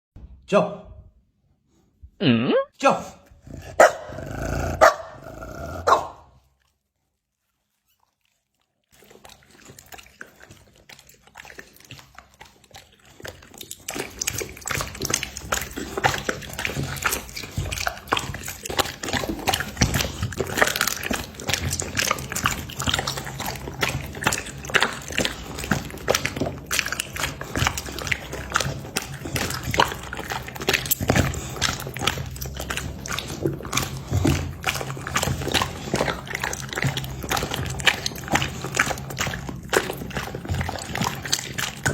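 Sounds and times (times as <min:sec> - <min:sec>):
dogs chewing meat: 0:03.2 - 0:41.9.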